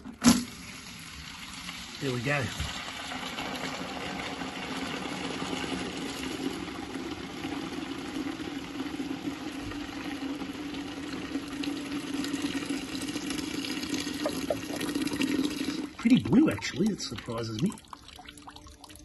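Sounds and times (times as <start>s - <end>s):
water pouring into a bucket: 0.0s - 19.0s.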